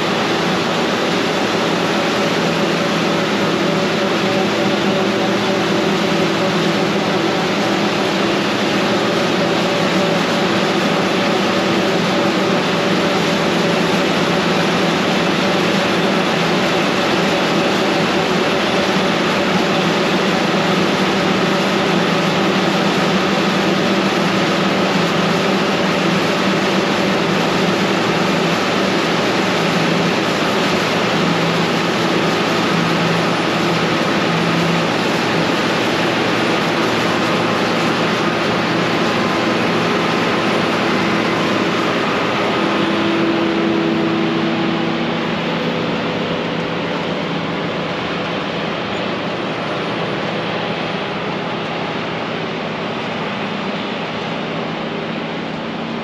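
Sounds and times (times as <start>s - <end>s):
machine rushing noise: 0.0s - 56.0s
steady machine hums: 0.0s - 56.0s.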